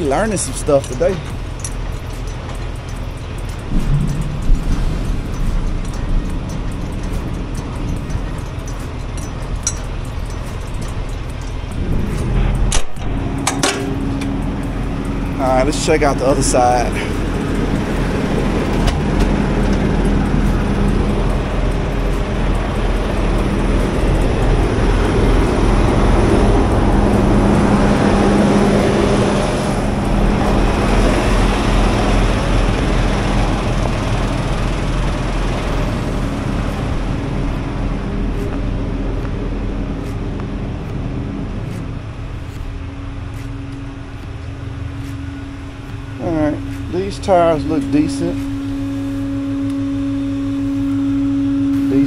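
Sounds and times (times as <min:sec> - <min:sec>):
low engine hum: 0:00.0 - 0:52.0
traffic noise: 0:00.0 - 0:52.0.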